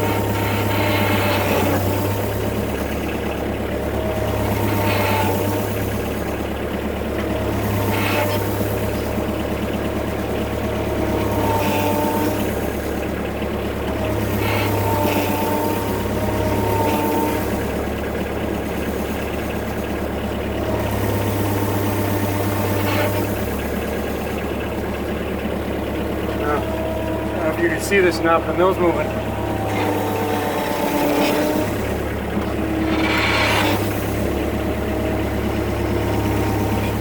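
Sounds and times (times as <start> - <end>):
loader engine under load: 0.0 - 37.0.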